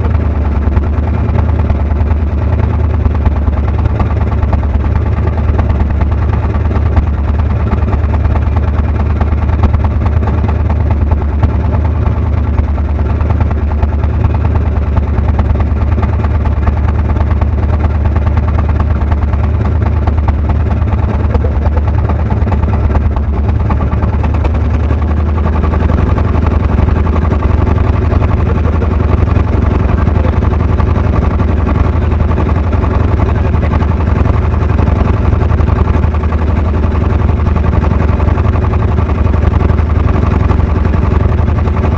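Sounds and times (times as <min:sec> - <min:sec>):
engine droning: 0:00.0 - 0:41.9.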